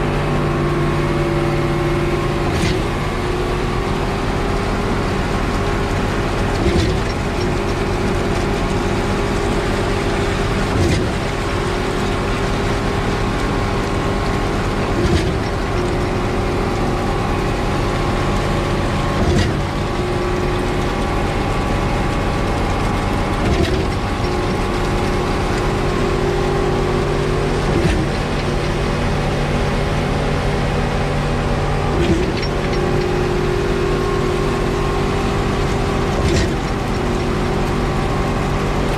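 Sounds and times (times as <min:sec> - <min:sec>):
concrete pouring: 0:00.0 - 0:38.9
concrete pump running: 0:00.0 - 0:38.9
pump knock: 0:02.4 - 0:29.6, 0:31.4 - 0:38.9.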